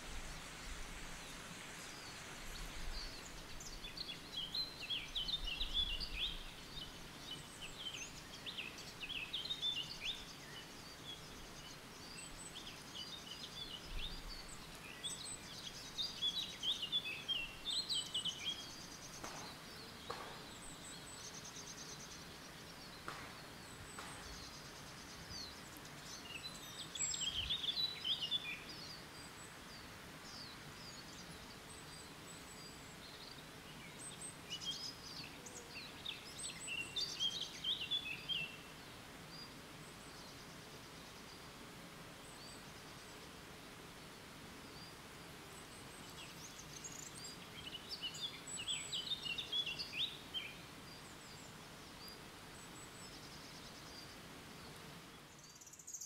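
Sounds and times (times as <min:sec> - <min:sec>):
faint background hiss: 0:00.0 - 0:56.0
songbirds singing: 0:00.0 - 0:56.0.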